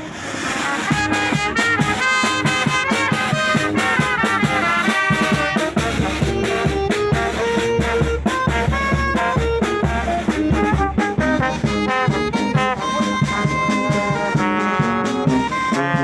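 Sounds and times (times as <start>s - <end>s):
brass band playing: 0.0s - 16.0s
steady low beat: 0.8s - 16.0s.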